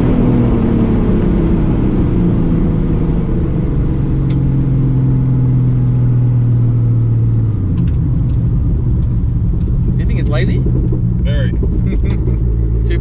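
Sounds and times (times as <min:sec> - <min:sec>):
car engine running from inside cabin: 0:00.0 - 0:13.0.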